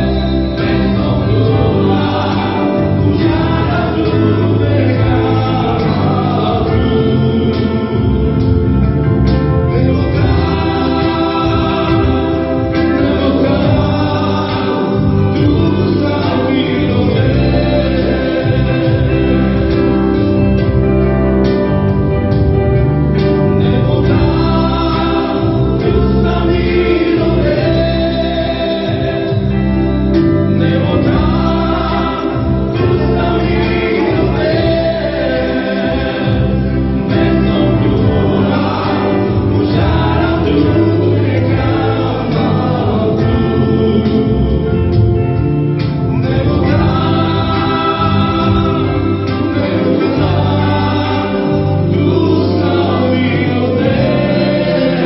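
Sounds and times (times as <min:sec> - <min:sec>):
church band playing praise song: 0:00.0 - 0:55.0
voices singing along: 0:00.0 - 0:55.0.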